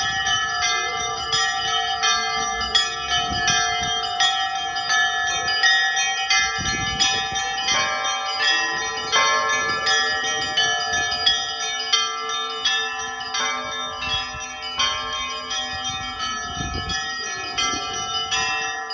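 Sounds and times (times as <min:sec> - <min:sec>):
church bells pealing: 0:00.0 - 0:18.9.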